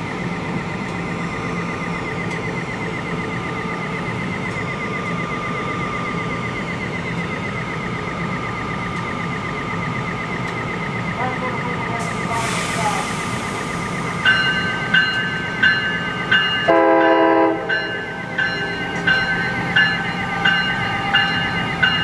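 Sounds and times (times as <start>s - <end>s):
electric locomotive hum and whine: 0.0s - 22.0s.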